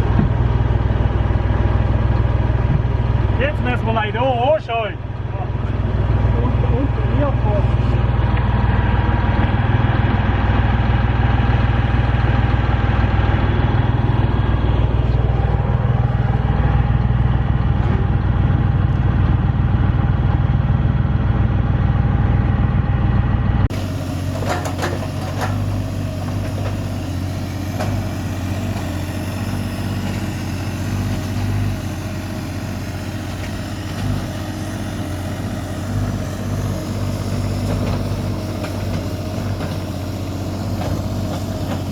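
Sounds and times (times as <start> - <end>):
heavy engine running: 0.0 - 41.9
quieter engine running: 0.0 - 41.9.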